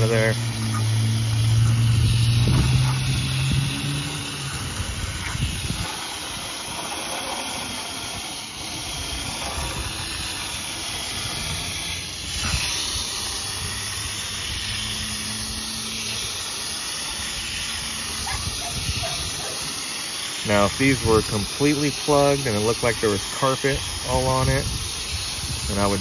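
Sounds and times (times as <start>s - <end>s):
hose water spraying on metal coil: 0.0s - 26.0s.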